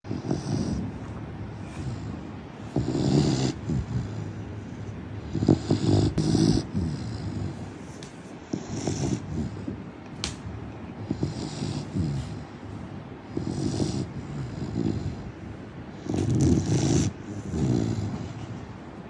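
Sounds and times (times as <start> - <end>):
dog snoring: 0.1 - 9.9, 11.0 - 18.8
dog breathing quietly: 0.1 - 10.0, 10.9 - 19.0.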